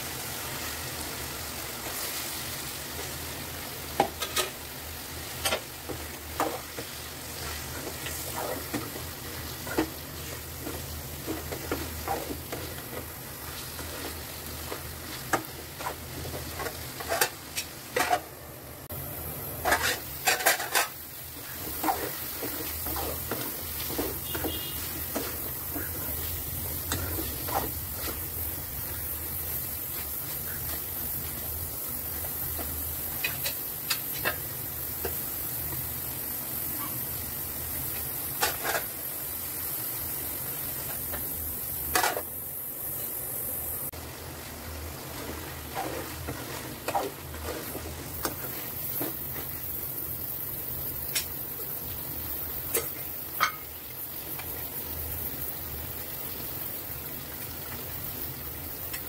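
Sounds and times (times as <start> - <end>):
curry sizzling in metal pan: 0.0 - 59.0.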